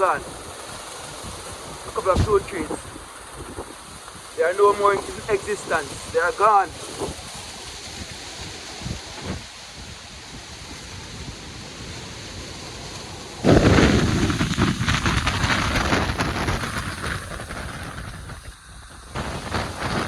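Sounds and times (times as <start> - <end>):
hurricane wind and rain: 0.0 - 20.0
wind buffeting microphone: 0.0 - 20.0.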